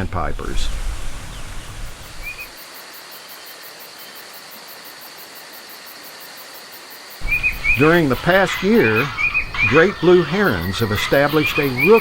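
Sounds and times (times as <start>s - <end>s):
insects calling: 0.0s - 12.0s.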